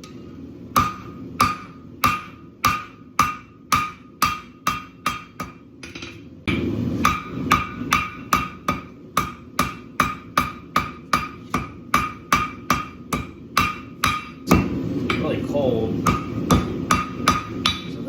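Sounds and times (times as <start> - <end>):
hammer striking steel on anvil: 0.0 - 18.0.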